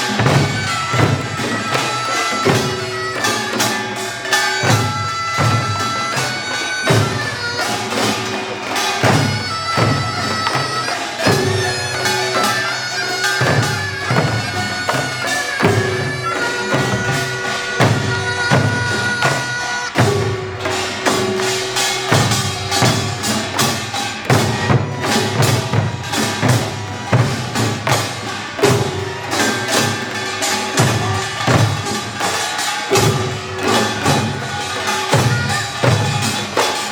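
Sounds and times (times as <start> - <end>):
drums and gongs beating: 0.0 - 36.9
loud reedy shawm melody: 0.0 - 36.9.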